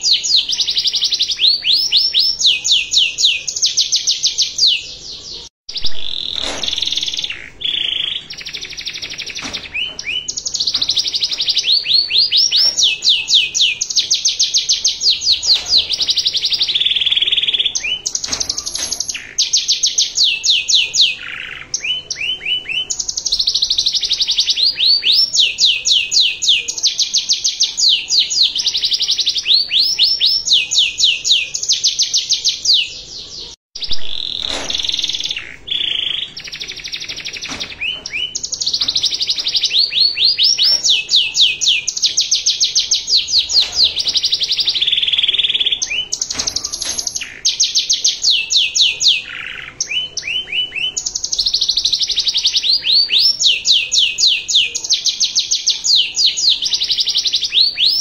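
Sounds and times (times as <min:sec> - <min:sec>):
canary singing rapid trills: 0:00.0 - 0:58.0.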